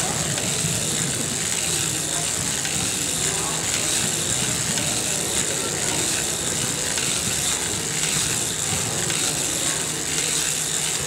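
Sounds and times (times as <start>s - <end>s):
knitting machine clattering: 0.0s - 11.0s.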